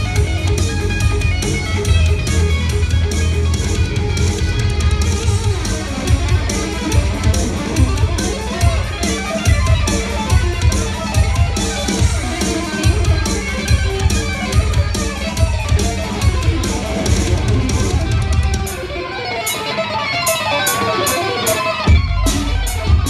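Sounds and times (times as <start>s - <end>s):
live electric guitar music: 0.0s - 23.0s.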